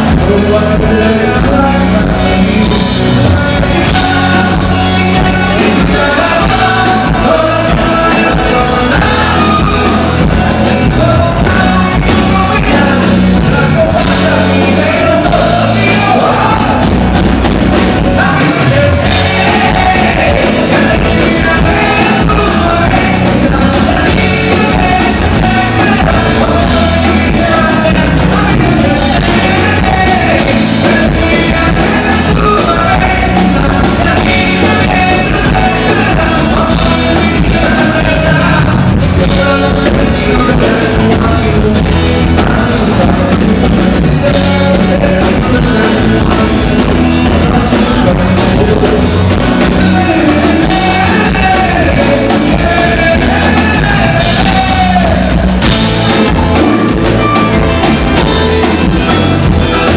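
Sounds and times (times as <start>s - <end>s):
lead singer singing: 0.0s - 59.9s
live dance band playing: 0.0s - 59.9s.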